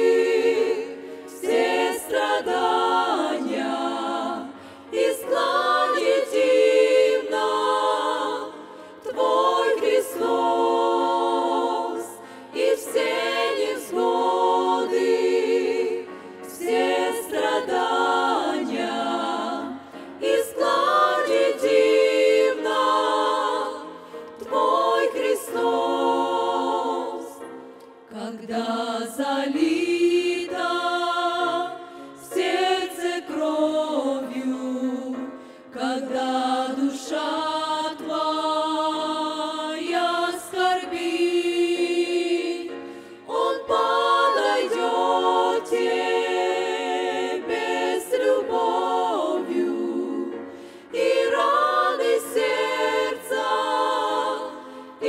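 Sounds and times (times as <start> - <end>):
women singing a hymn in harmony: 0.0 - 55.0.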